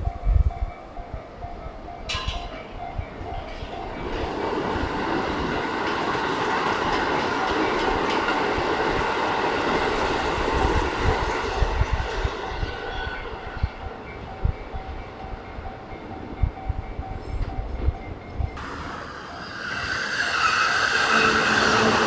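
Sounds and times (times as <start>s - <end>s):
train running noise: 0.0s - 22.0s.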